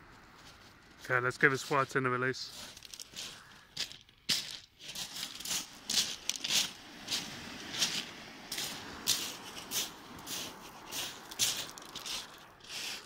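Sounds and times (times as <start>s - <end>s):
footsteps crunching on pebbles: 0.0s - 13.0s.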